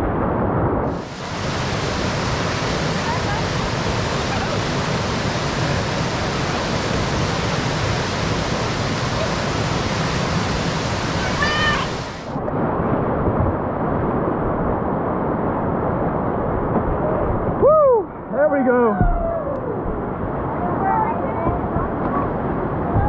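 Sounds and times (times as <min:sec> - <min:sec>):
whitewater rushing: 0:00.0 - 0:23.0.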